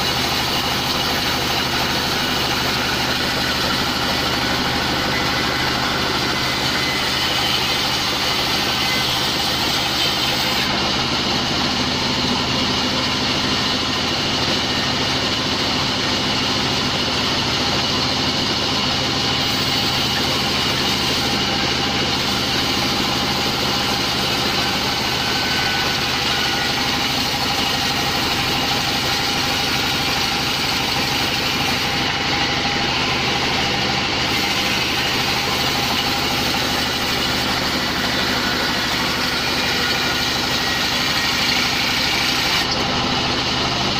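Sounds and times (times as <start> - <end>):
band saw running: 0.0 - 43.9
log being sawn: 0.0 - 43.9.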